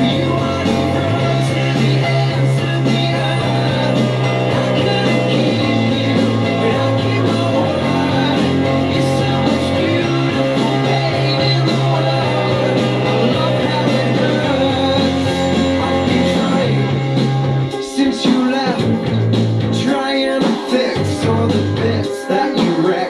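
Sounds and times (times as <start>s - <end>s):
rock song with singing: 0.0s - 23.0s.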